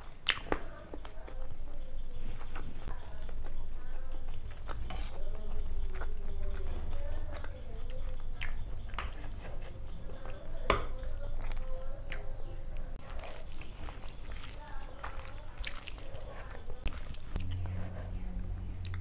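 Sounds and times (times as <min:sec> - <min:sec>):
person chewing: 0:00.0 - 0:01.4, 0:02.2 - 0:10.4, 0:11.2 - 0:19.0.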